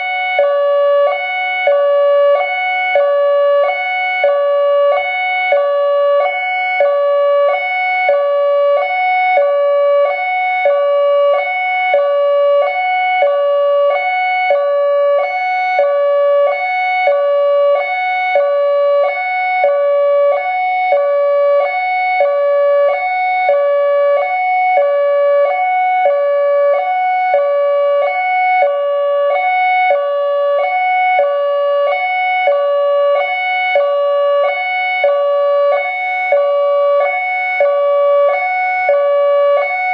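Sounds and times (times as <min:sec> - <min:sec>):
hi-lo warning siren: 0:00.0 - 0:39.9.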